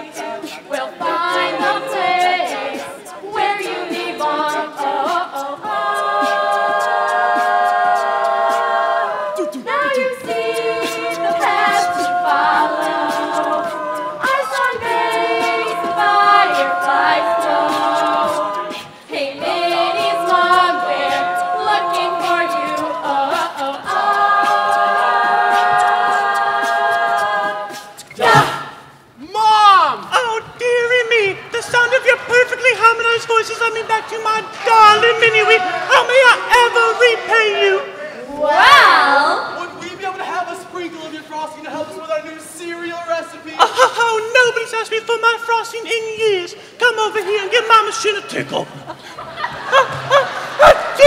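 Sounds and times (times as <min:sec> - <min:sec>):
voices singing a cappella: 0:00.0 - 0:51.0.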